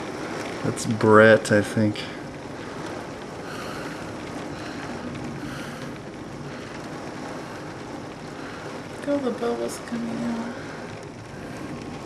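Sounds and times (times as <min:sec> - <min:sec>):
floodwater rushing: 0:00.0 - 0:12.0
heavy rain: 0:00.0 - 0:12.0.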